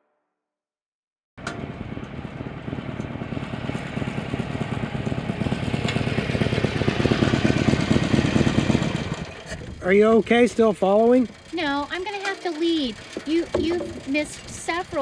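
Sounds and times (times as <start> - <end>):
motorcycle engine running: 1.4 - 15.0.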